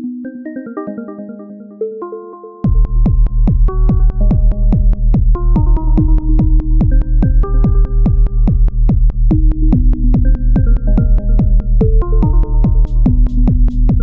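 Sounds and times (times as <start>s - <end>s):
heavy kick drum: 2.6s - 14.0s
synth bass: 2.6s - 14.0s.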